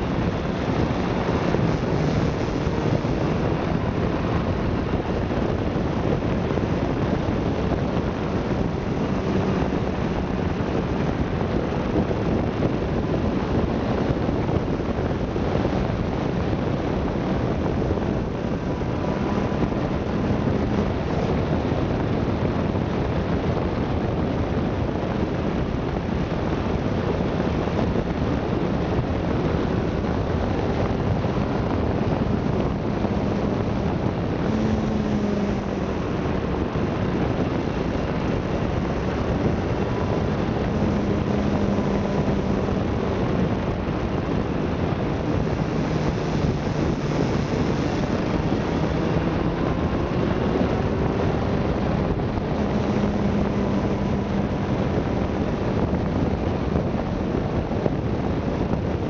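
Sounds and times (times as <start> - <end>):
faint motorcycle engine hum: 0.0 - 59.0
wind rushing over microphone: 0.0 - 59.0.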